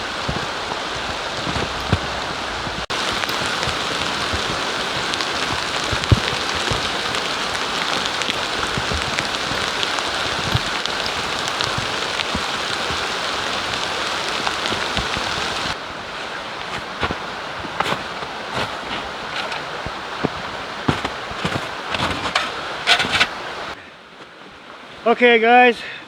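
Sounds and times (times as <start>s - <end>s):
rain pattering on a surface: 0.0s - 25.3s.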